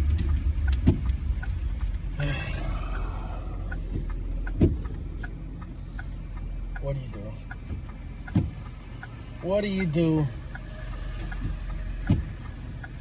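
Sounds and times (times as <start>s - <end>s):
vehicle idling rumble: 0.0s - 13.0s.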